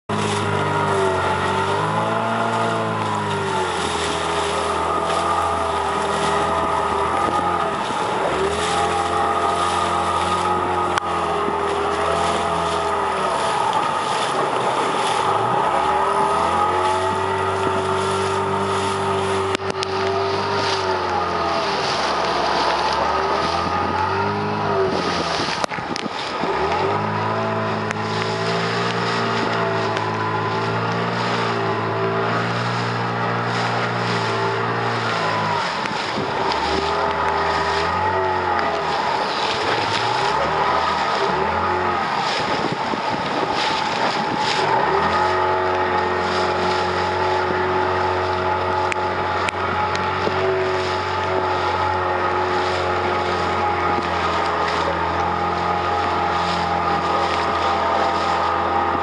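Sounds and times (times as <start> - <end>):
outboard motor revving: 0.0 - 59.0
hiss of wind and water: 0.1 - 59.0.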